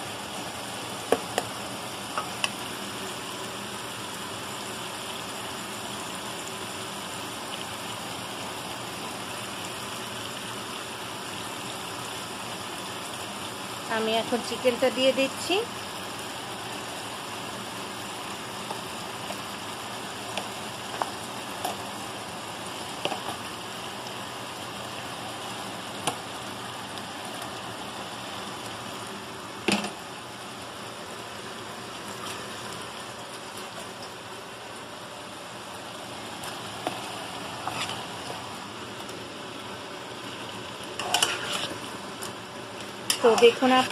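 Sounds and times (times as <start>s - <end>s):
sizzling in a frying pan: 0.0s - 43.9s.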